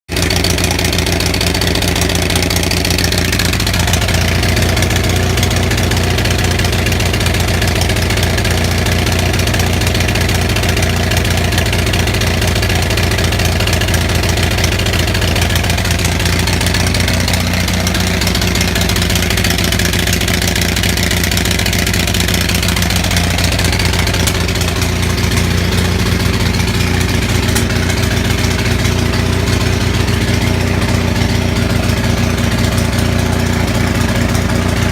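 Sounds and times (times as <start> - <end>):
generator misfiring: 0.1 - 34.9.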